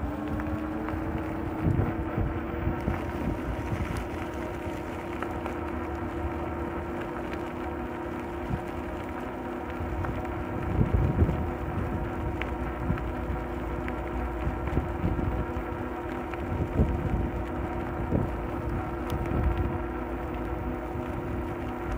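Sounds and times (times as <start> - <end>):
wind buffeting microphone: 0.0 - 6.9, 9.6 - 21.9
electric motor whining: 0.0 - 21.9.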